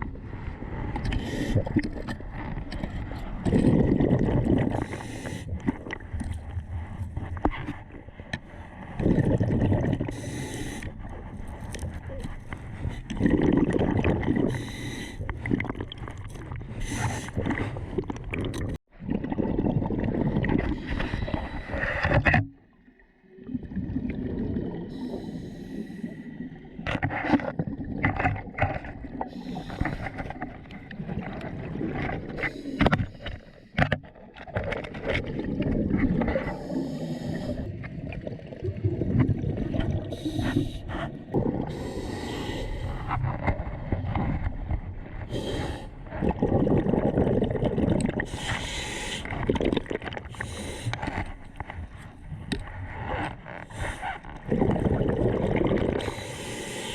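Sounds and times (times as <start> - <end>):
water gurgling and sloshing: 0.0 - 56.9.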